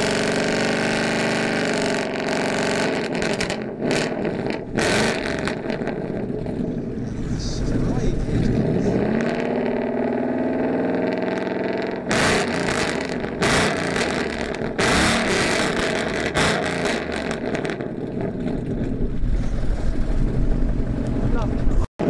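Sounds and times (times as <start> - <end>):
car engine starting and revving: 0.0 - 21.9.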